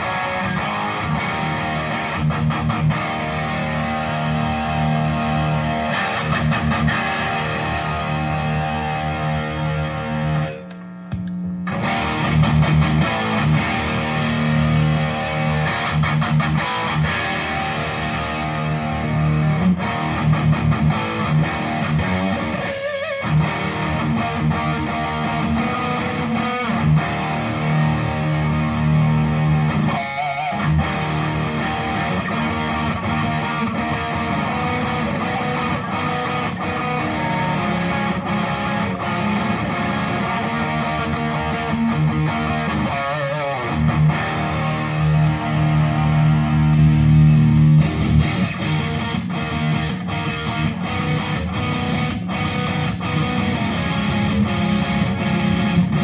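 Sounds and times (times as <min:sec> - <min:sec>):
overdriven electric guitar riffs: 0:00.0 - 0:56.0.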